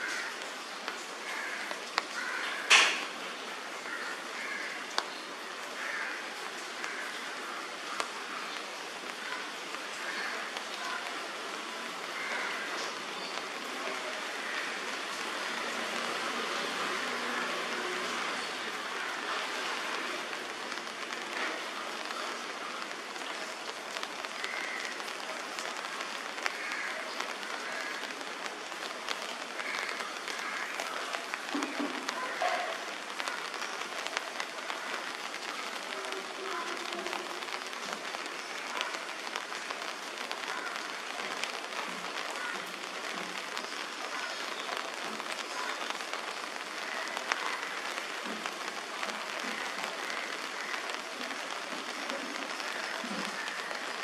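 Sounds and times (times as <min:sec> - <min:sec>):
rain pattering on leaves: 0:00.0 - 0:54.0.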